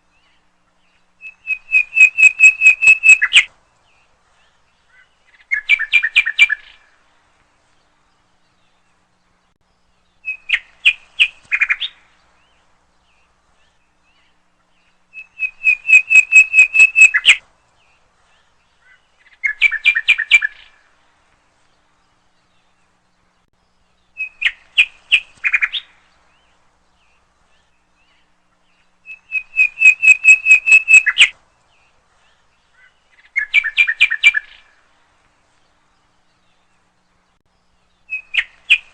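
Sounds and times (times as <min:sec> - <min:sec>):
nightingale singing: 0:00.0 - 0:07.0, 0:07.8 - 0:20.9, 0:21.6 - 0:34.9, 0:35.5 - 0:38.9.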